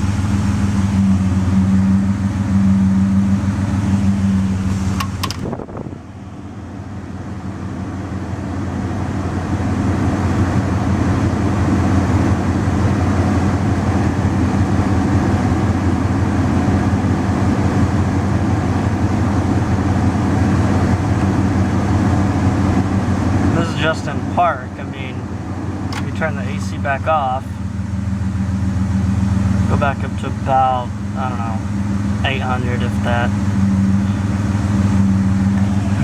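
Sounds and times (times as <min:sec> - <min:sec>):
car engine idling roughly: 0:00.0 - 0:36.0.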